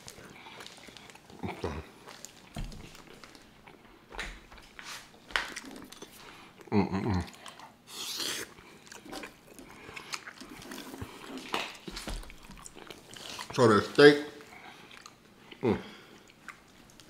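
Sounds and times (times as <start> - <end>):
close chewing and biting: 0.0 - 17.0.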